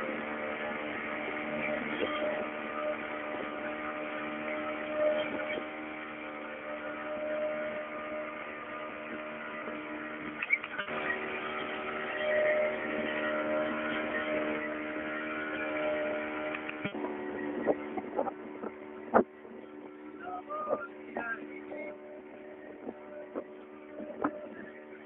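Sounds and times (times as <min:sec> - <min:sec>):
motorboat engine running: 0:00.0 - 0:25.0.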